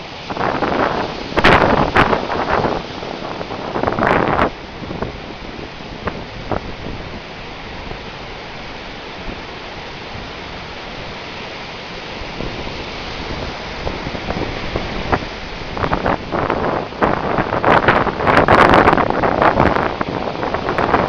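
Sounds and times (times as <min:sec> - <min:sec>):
wind on microphone: 0:00.0 - 0:11.4, 0:12.0 - 0:21.0
waves rushing: 0:00.0 - 0:21.0.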